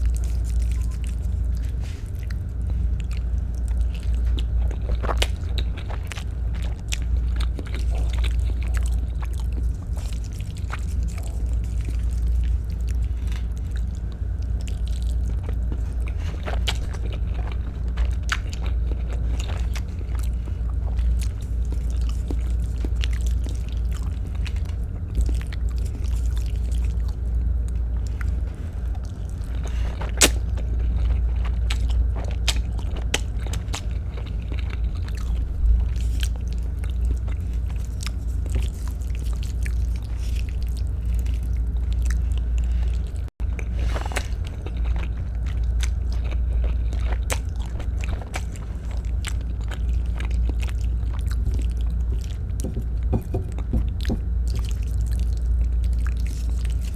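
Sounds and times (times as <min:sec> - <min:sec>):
chewing spaghetti: 0:00.0 - 0:56.9
steady low rumble: 0:00.0 - 0:56.9.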